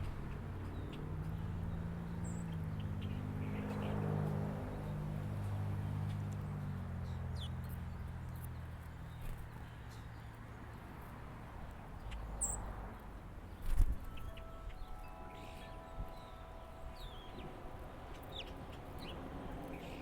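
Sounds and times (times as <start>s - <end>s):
low engine hum: 0.0s - 20.0s
songbirds chirping: 0.0s - 20.0s.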